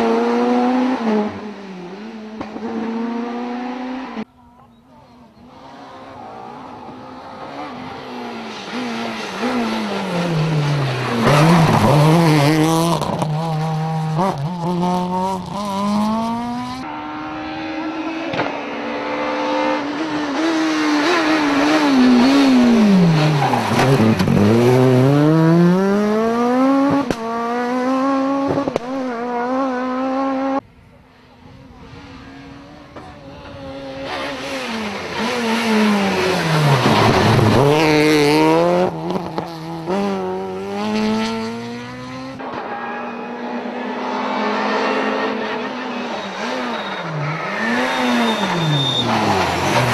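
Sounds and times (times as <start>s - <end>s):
rally car engines revving: 0.0s - 4.3s, 5.0s - 49.9s.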